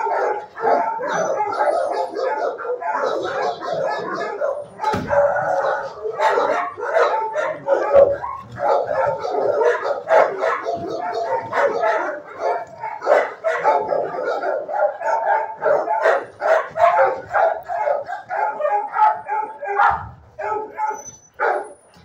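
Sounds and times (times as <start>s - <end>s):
many dogs barking: 0.0s - 22.0s.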